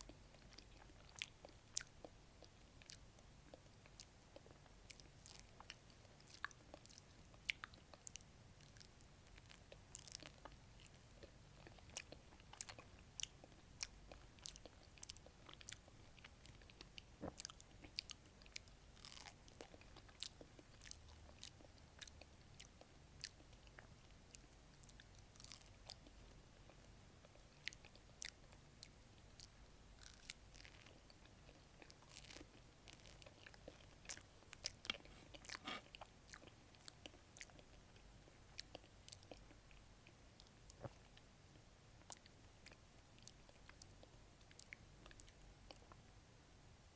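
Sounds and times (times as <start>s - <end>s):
person chewing a peach: 0.0s - 38.0s.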